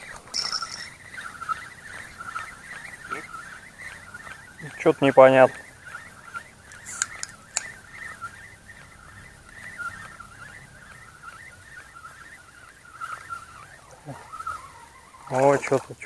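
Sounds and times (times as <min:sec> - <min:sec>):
faint clicks: 0:00.0 - 0:16.0
frogs croaking chorus: 0:00.0 - 0:16.0.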